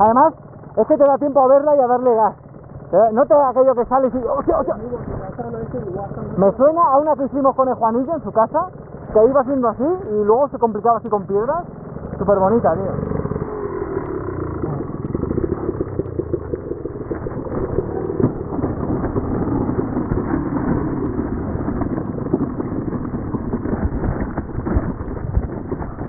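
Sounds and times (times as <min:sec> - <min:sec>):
bike rattling over rocks: 0:00.0 - 0:26.0
motorcycle engine revving: 0:00.0 - 0:26.0.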